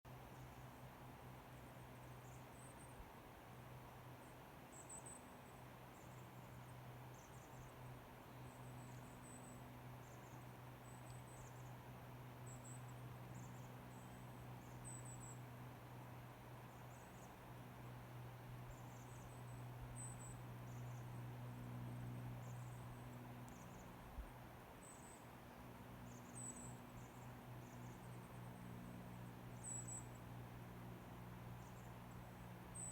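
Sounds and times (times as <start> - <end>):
low steady hum: 0.1 - 32.9.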